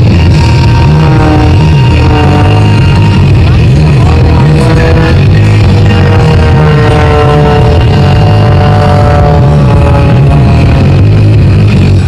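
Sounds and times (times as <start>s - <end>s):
music: 0.0s - 12.0s
plane piston engine and propeller: 0.0s - 12.0s.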